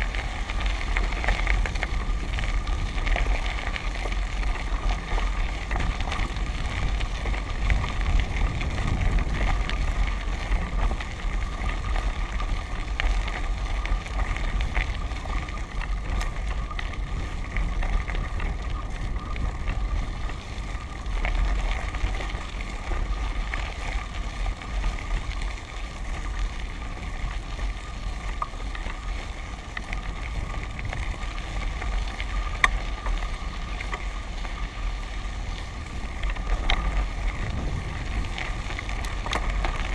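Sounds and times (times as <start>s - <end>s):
tyres rolling on gravel: 0.0s - 39.9s
wind buffeting microphone: 0.0s - 39.9s.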